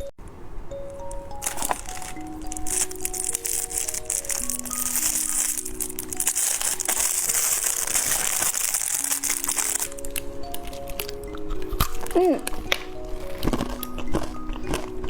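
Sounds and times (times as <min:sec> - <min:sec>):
background music: 0:00.7 - 0:15.0
plastic wrapper crinkling: 0:00.8 - 0:15.0.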